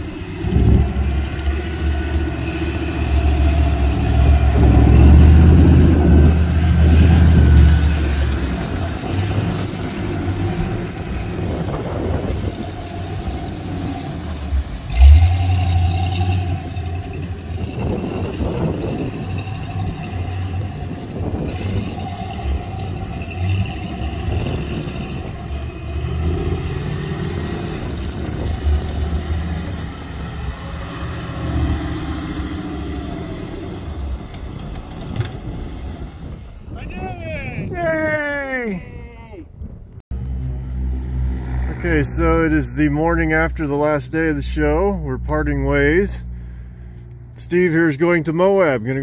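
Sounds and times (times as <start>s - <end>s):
off-road buggy engines revving: 0.0s - 38.2s, 40.1s - 49.0s.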